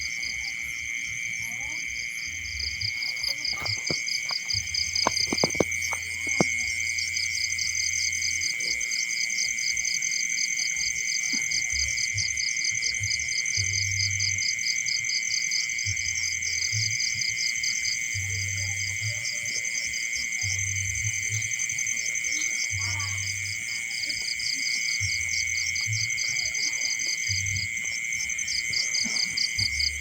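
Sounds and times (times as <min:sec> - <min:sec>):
insect chorus trilling: 0:00.0 - 0:30.0.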